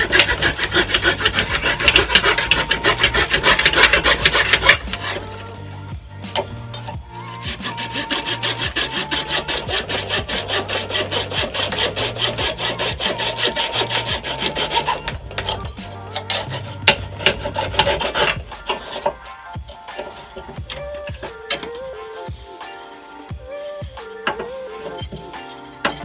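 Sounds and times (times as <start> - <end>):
coping saw cutting wood: 0.0 - 5.6, 6.2 - 22.3.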